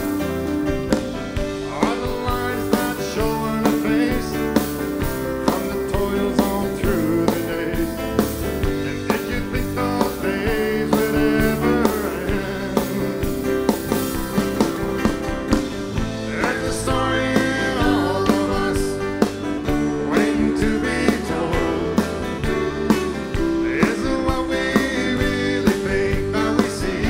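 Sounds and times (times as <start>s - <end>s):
drum kit steady beat: 0.0s - 27.0s
live band playing: 0.0s - 27.0s.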